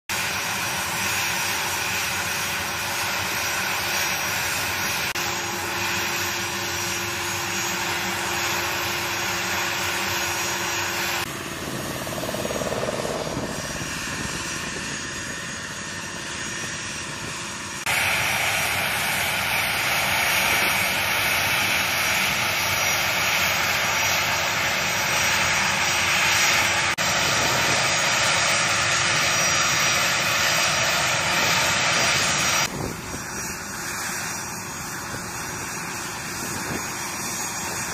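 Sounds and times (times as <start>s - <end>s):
jet engine whine: 0.1s - 37.9s.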